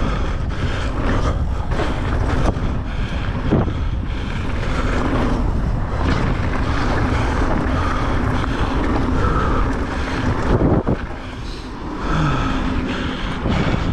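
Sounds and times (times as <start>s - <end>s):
tyres rolling on gravel trail: 0.0s - 13.9s
wind buffeting microphone: 0.0s - 13.9s.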